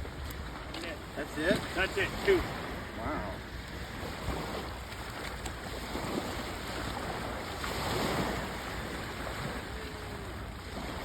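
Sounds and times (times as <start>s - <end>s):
waves washing on shore: 0.0s - 11.0s
wind rumbling on microphone: 0.0s - 11.0s.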